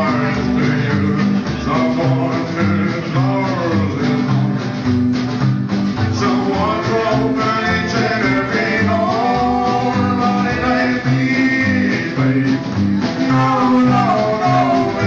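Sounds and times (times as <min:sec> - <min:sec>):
rockabilly band with singer: 0:00.0 - 0:15.0.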